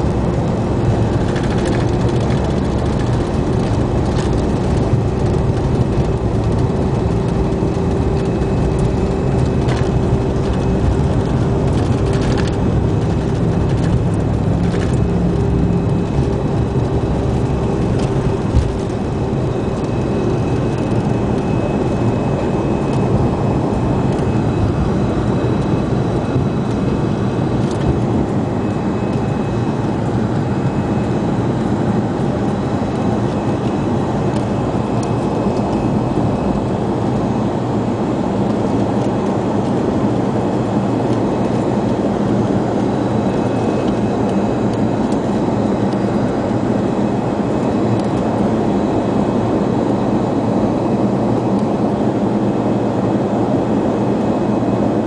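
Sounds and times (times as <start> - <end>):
steady hum: 0.0 - 52.6
jet engines at takeoff power: 0.0 - 55.0
wheels rumbling on runway: 0.0 - 55.0.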